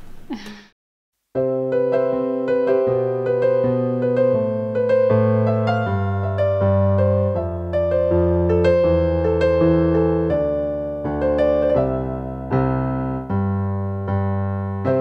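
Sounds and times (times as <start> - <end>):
electric piano music: 1.4 - 15.0.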